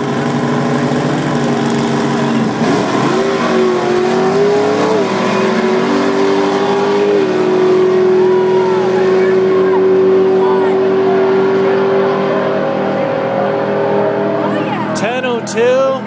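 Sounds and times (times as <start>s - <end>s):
car engines at full throttle: 0.0s - 16.0s.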